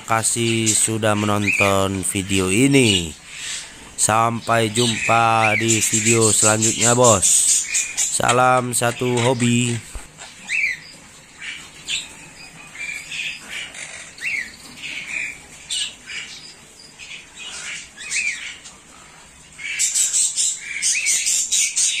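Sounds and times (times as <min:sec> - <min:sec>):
parakeets squawking and chirping: 0:00.0 - 0:22.0.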